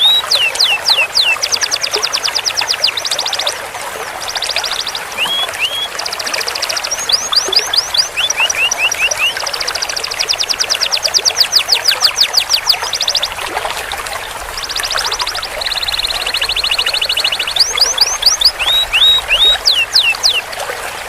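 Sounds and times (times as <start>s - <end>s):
canary singing trills: 0.0s - 20.5s.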